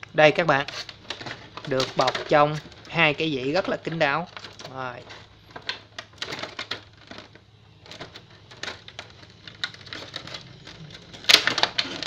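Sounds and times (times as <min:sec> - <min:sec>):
plastic bag crinkling: 0:00.4 - 0:12.0.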